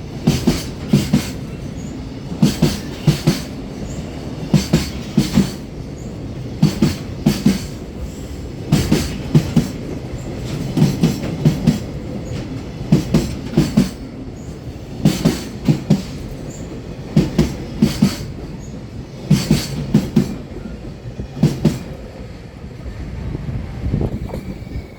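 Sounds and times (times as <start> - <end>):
train wheels clacking over rail joints: 0.0 - 22.3
train rolling rumble: 0.0 - 24.9.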